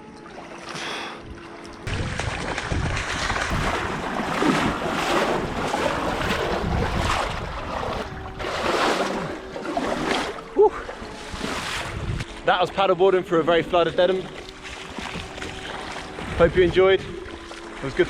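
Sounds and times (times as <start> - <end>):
water rushing and splashing: 0.0 - 18.0
wind buffeting microphone: 1.2 - 12.4, 14.5 - 18.0.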